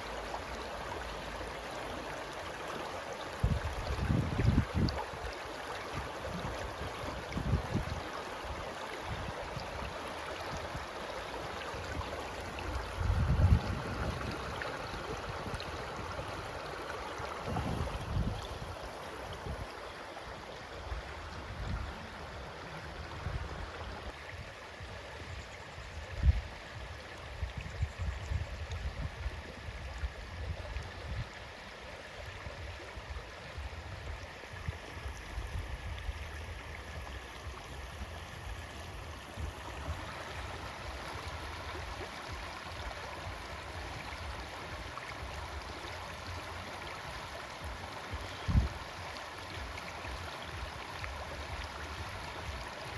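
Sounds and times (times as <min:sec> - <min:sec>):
stream flowing: 0:00.0 - 0:52.9.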